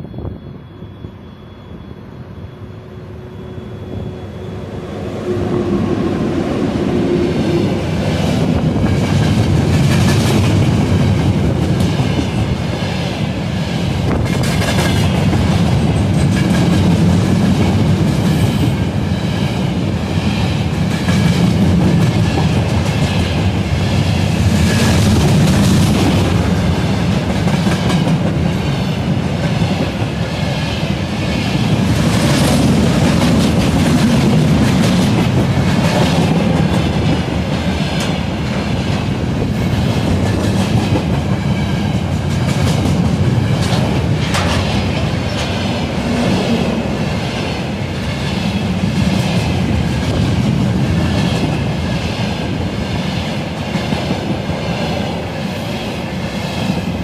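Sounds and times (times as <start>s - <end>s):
train wheels clattering over rails: 7.4s - 57.0s.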